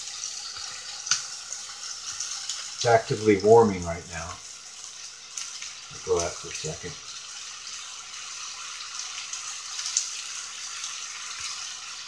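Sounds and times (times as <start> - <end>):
steak sizzling on grill: 0.0 - 12.0.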